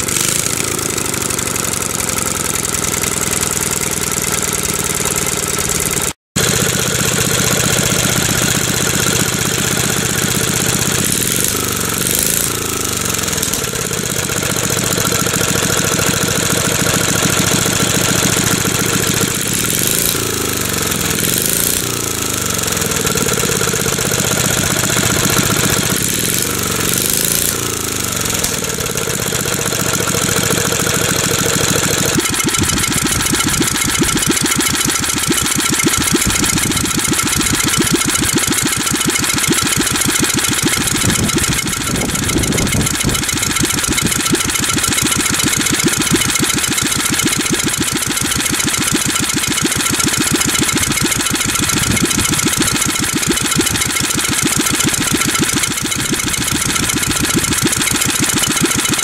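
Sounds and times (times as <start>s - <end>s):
small engine exhaust popping: 0.0s - 59.0s.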